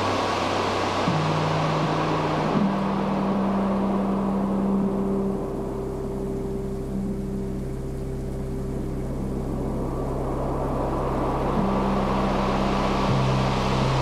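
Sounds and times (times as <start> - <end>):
hiss: 0.0 - 6.8, 9.5 - 14.0.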